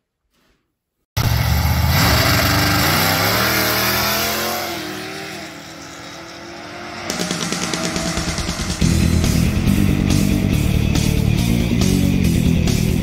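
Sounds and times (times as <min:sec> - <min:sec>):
drag racing car engine accelerating: 0:01.2 - 0:13.0.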